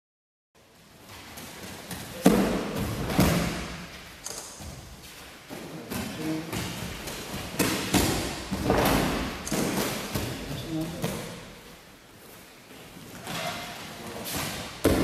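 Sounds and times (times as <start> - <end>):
bare feet thudding on mats: 1.0 - 15.0.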